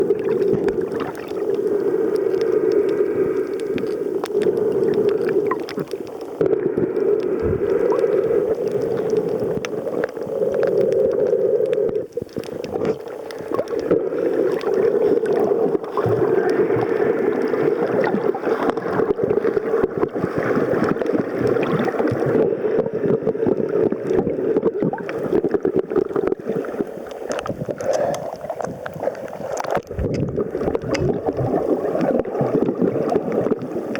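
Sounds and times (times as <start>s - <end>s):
small underwater clicks and crackles: 0.0s - 33.9s
underwater rushing water: 0.0s - 33.9s.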